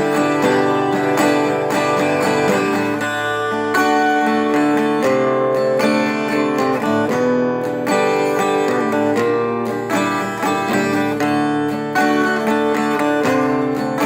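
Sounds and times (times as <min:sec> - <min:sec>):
guitar picked and strummed: 0:00.0 - 0:14.0.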